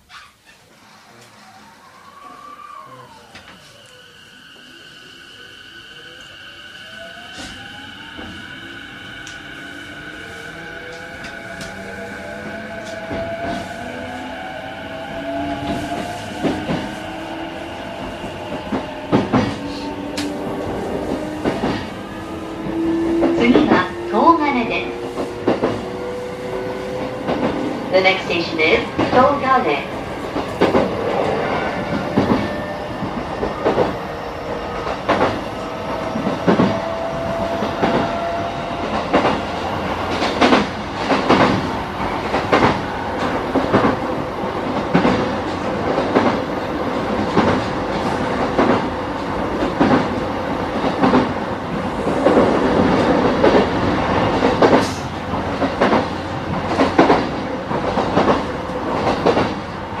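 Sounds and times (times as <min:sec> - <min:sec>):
train rumbling at speed: 0:00.0 - 1:00.0.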